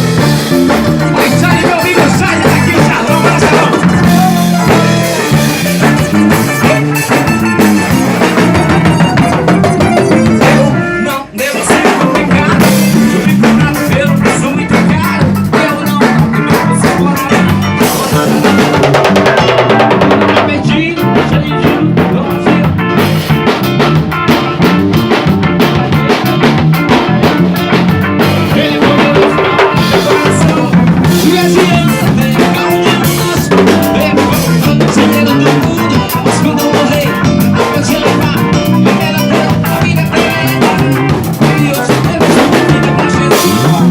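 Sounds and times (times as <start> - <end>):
drum kit beat: 0.0 - 43.9
gospel band playing: 0.0 - 43.9.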